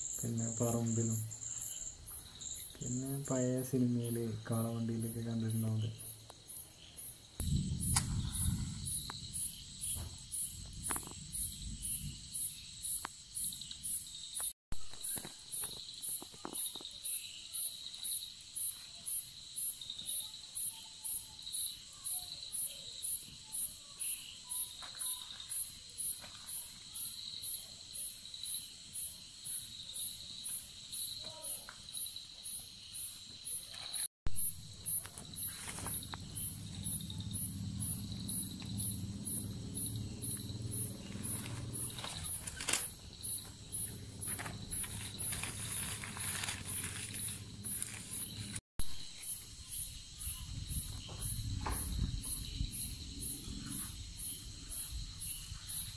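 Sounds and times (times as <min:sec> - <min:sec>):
insect pulsing trill: 0:00.0 - 0:33.7, 0:34.3 - 0:55.9
crickets chirping: 0:00.0 - 0:55.9.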